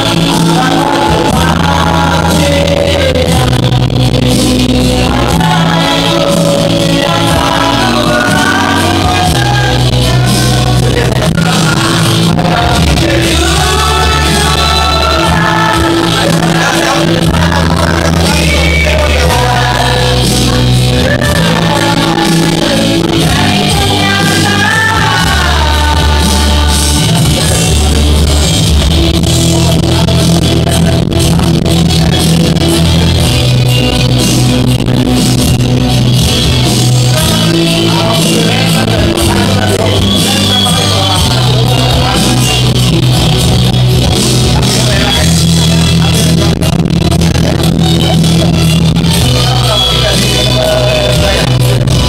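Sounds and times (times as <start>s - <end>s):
loud backing track with bass: 0.0s - 52.0s
men singing into microphones: 0.0s - 52.0s.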